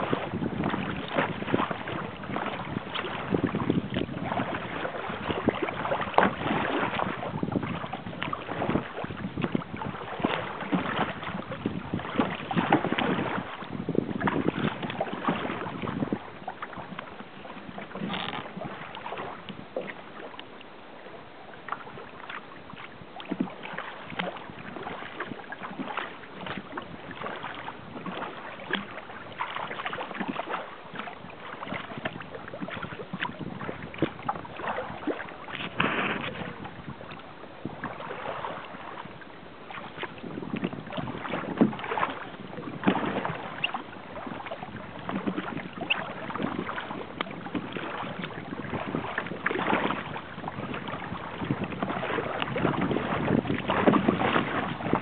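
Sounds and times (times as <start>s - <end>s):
rushing water: 0.0s - 55.0s
water splashing against hull: 0.0s - 55.0s
wind: 0.0s - 55.0s.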